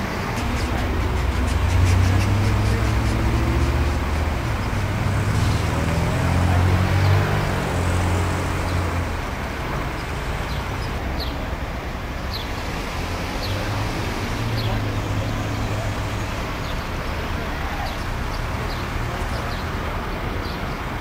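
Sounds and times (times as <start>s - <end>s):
road traffic engine hum: 0.0s - 21.0s.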